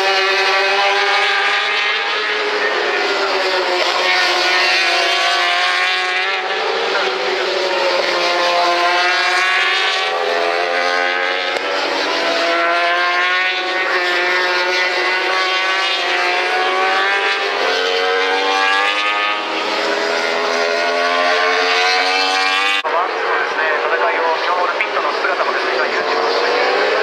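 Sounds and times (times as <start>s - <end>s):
racing motorcycles passing: 0.0s - 27.0s.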